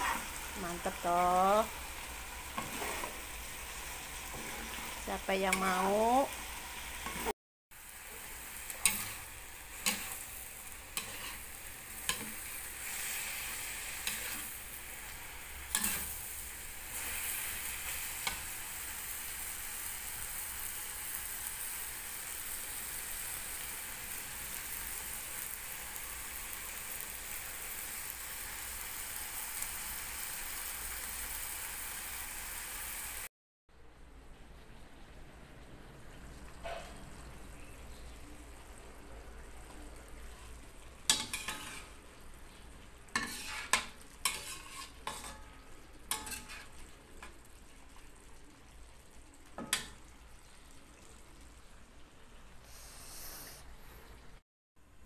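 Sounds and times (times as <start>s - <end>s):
food sizzling in a wok: 0.0s - 33.3s, 39.4s - 53.6s.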